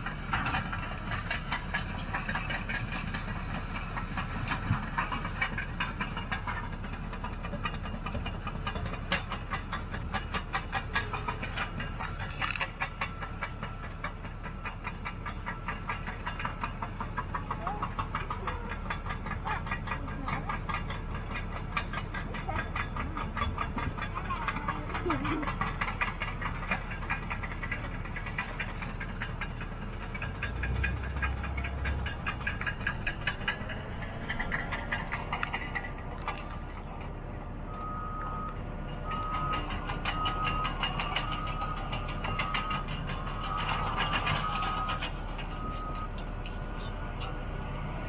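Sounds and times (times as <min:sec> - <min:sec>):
rapid metallic clatter: 0:00.0 - 0:46.9
diesel engine rumbling: 0:00.0 - 0:48.0
steel tracks clanking: 0:00.0 - 0:48.0.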